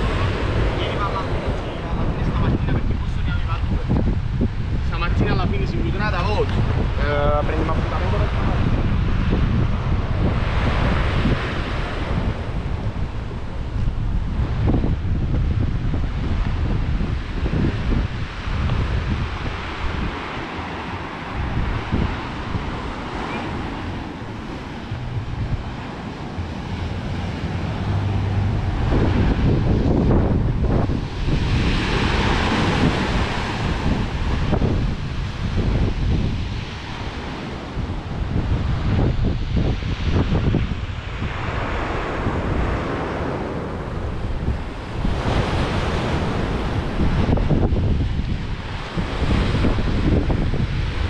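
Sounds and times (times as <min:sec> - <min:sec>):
surf breaking on shore: 0:00.0 - 0:51.0
wind buffeting microphone: 0:00.0 - 0:51.0.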